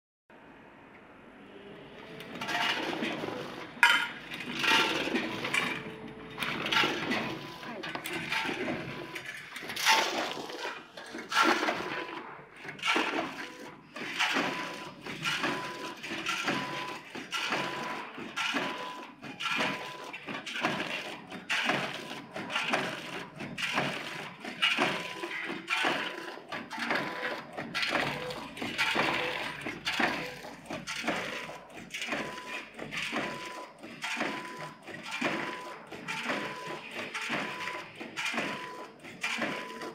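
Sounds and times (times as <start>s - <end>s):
packing machine metallic clacks: 2.1s - 39.9s.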